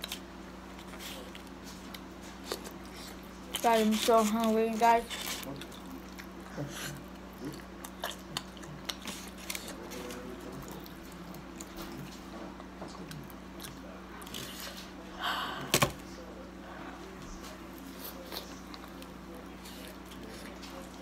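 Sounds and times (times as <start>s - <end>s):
person biting and chewing pizza: 0.0s - 16.2s, 17.3s - 21.0s.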